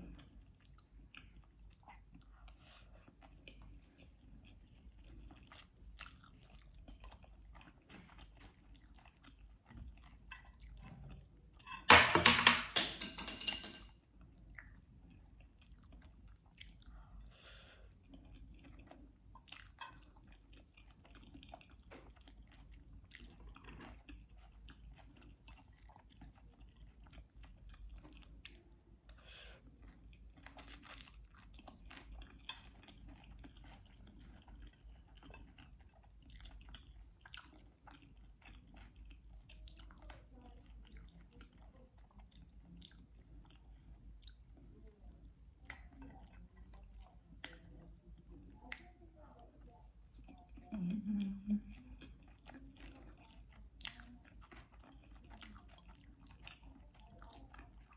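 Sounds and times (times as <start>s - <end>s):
person chewing: 0.0s - 11.8s, 14.2s - 57.9s.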